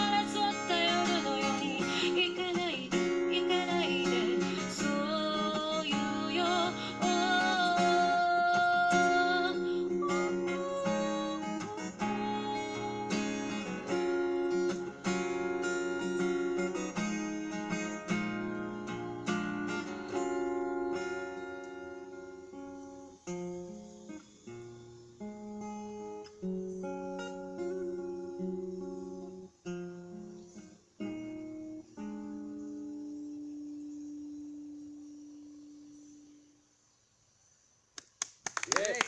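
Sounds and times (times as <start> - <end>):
acoustic guitar strumming: 0.0 - 36.5.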